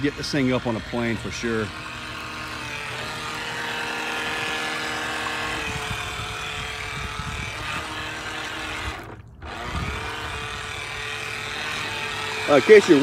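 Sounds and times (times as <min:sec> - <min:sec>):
small electric motor whining: 0:00.0 - 0:13.0
water sloshing: 0:00.0 - 0:13.0.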